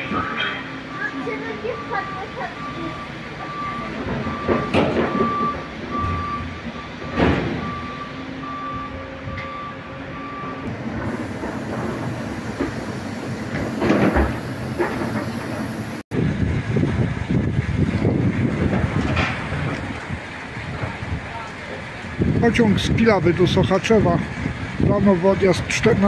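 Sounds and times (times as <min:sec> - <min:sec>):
train rumble: 0:00.0 - 0:26.0.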